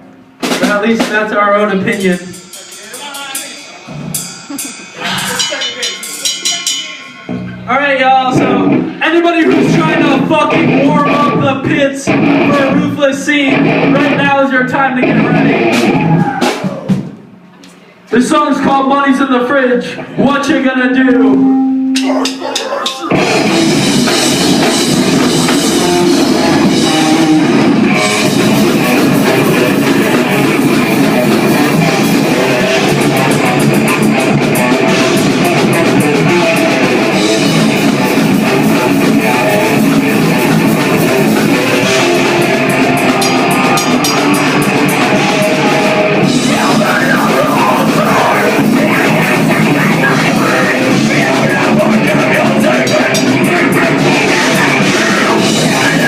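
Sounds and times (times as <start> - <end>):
live band playing heavy rock: 0.0 - 17.6, 21.0 - 56.0.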